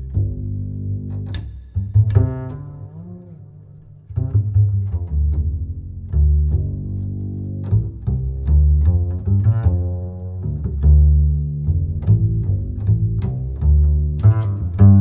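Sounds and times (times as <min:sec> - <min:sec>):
low strings music: 0:00.0 - 0:15.0.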